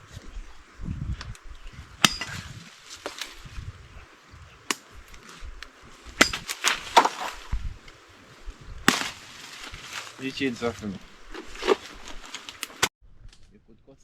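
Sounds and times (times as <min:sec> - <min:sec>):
machete chopping brush: 0:01.2 - 0:12.9.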